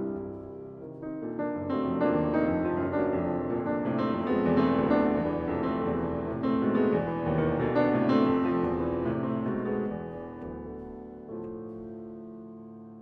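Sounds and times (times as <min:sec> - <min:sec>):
solo grand piano chords: 0:00.0 - 0:13.0.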